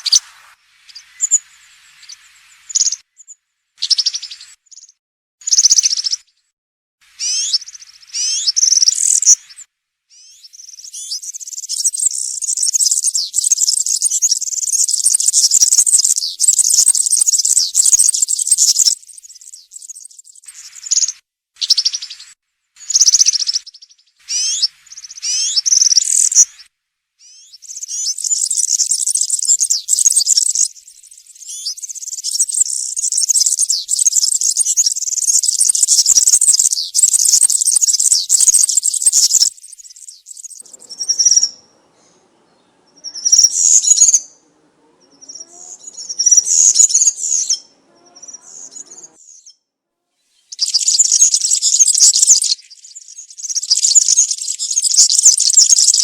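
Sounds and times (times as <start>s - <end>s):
bird singing high rapid notes: 7.2s - 49.6s, 50.4s - 56.0s.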